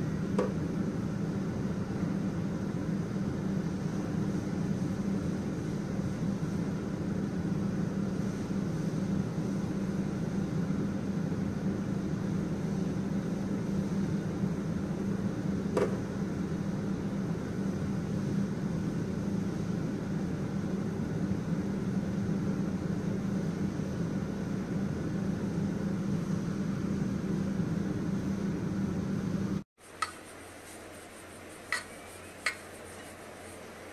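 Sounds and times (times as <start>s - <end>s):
fan motor humming: 0.0s - 33.9s.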